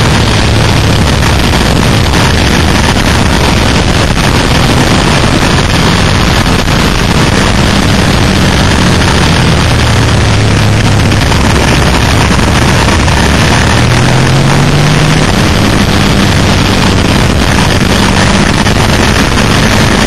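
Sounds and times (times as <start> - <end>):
motorcycle engine running: 0.0 - 20.0
wind rushing on microphone: 0.0 - 20.0.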